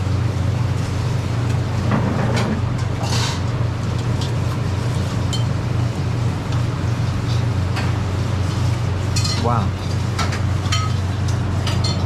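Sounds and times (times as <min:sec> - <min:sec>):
restaurant background hum: 0:00.0 - 0:12.0.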